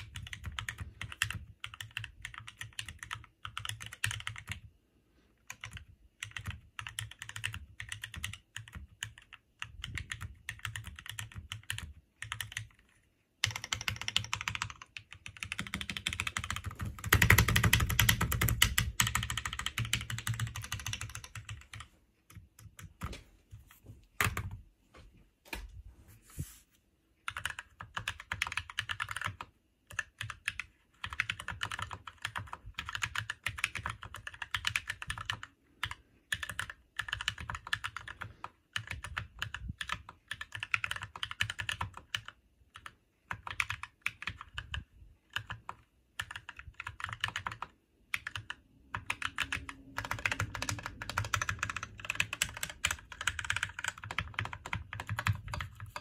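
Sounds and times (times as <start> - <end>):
fast typing on mechanical keyboard: 0.0 - 4.7, 5.4 - 23.1, 27.2 - 56.0.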